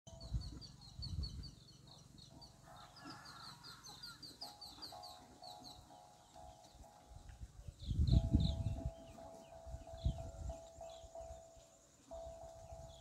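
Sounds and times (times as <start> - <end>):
faint bird chirping: 0.1 - 13.0.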